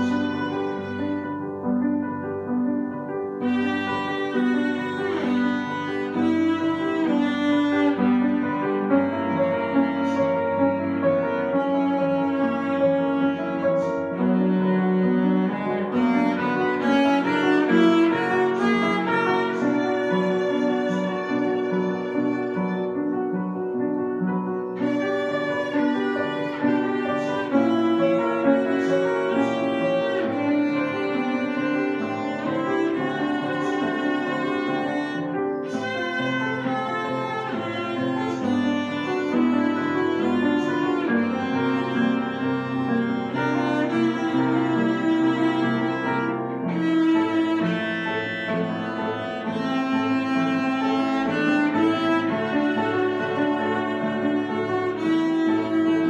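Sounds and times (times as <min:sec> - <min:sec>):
bowed cello melody: 0:00.0 - 0:56.0
piano accompaniment: 0:00.0 - 0:56.0.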